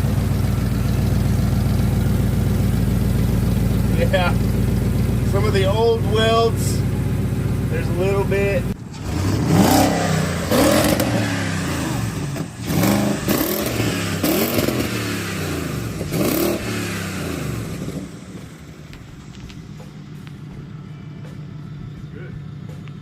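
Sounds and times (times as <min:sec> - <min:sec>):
car engine idling: 0:00.0 - 0:23.0
car engine revving: 0:00.0 - 0:23.0.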